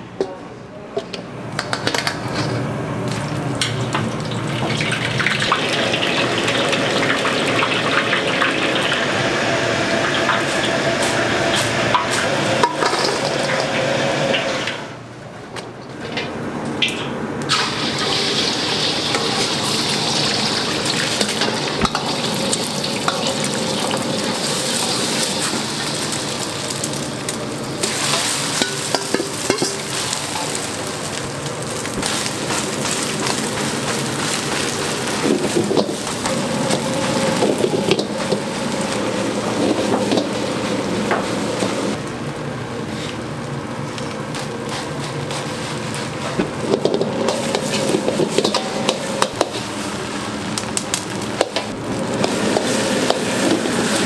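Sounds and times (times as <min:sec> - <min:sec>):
deep-frying sizzle in oil: 0:03.1 - 0:14.7, 0:16.8 - 0:42.4, 0:43.0 - 0:54.0.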